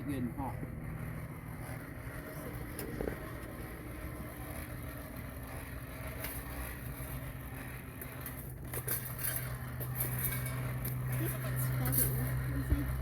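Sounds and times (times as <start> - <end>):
hand-cranked blower whirring: 0.0 - 13.0.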